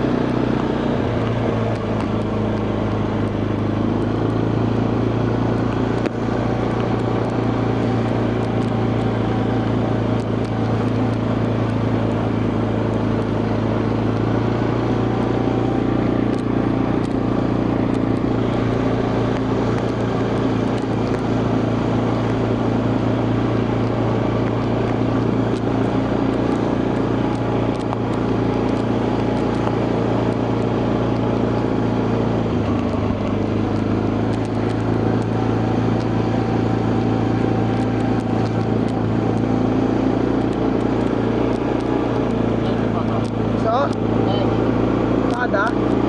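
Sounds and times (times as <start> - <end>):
quad bike engine running: 0.0 - 46.0.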